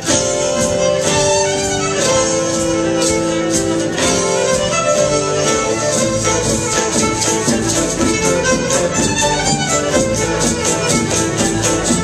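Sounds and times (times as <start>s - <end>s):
band music: 0.0s - 12.0s
fiddle melody: 0.0s - 12.0s
steady drumbeat: 0.0s - 12.0s.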